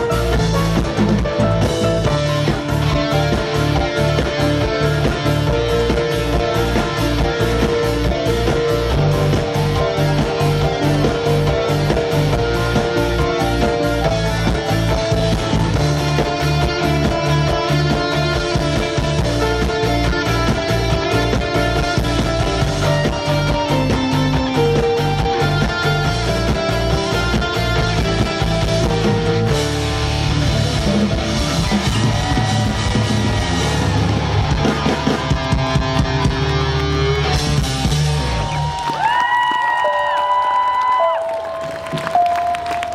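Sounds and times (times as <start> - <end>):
bass guitar: 0.0 - 39.8
drums: 0.0 - 42.9
electric guitar: 0.0 - 42.9
live rock band playing: 0.0 - 42.9.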